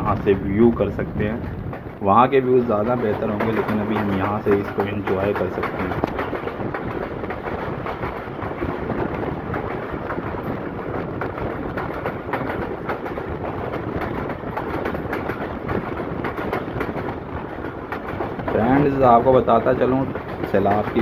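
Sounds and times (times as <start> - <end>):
clicks and knocks from track: 0.0 - 21.0
train wheels rumbling on rail: 0.0 - 21.0.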